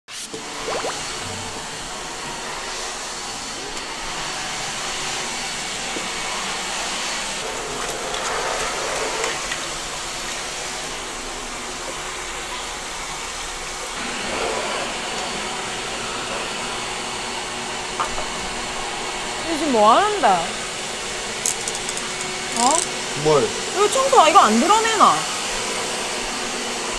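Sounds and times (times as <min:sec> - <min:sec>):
vacuum cleaner running: 0:00.1 - 0:26.9.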